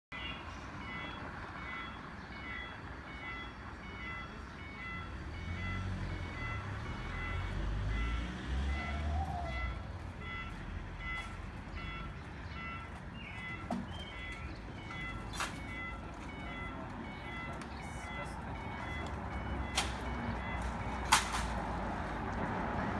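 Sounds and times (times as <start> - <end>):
level crossing alarm beeps: 0.1 - 21.6.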